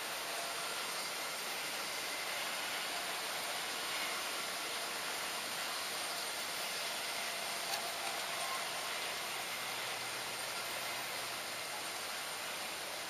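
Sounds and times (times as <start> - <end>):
model train running on rails: 0.0 - 13.0.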